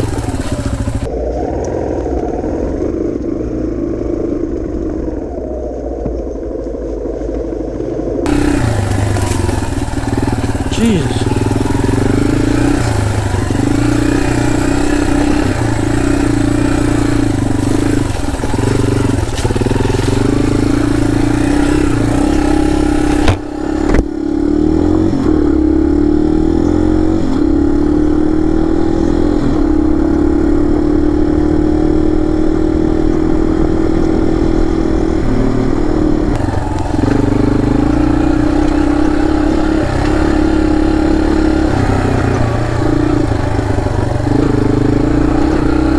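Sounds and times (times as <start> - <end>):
dirt bike engine revving: 0.0 - 1.1, 8.3 - 45.9.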